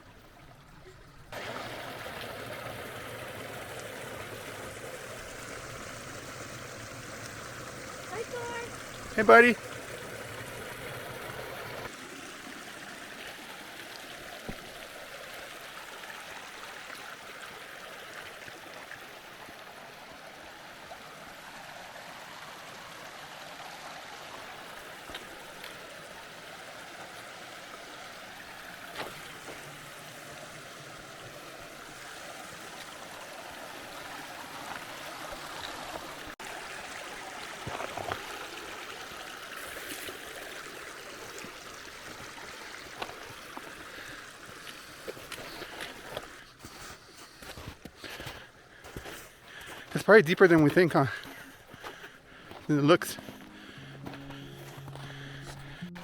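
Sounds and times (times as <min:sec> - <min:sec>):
mountain creek running: 0:00.0 - 0:56.0.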